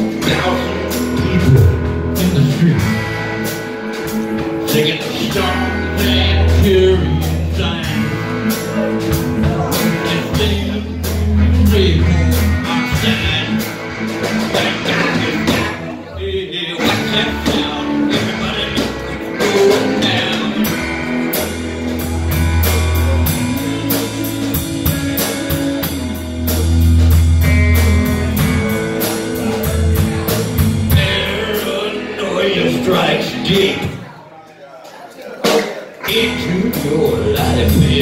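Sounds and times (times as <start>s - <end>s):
drum kit beat: 0.0s - 16.0s, 16.7s - 34.1s, 35.4s - 38.0s
bass line: 0.0s - 34.1s, 36.0s - 38.0s
electric guitars: 0.0s - 34.1s, 35.4s - 38.0s.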